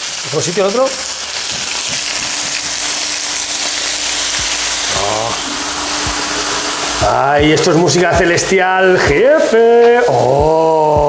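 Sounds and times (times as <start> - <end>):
meat sizzling in hot oil: 0.0 - 9.5.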